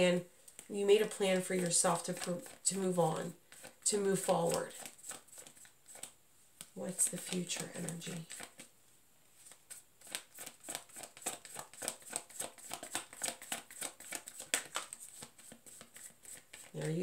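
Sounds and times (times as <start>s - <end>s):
cards being shuffled by hand: 0.4s - 8.7s, 9.4s - 17.0s.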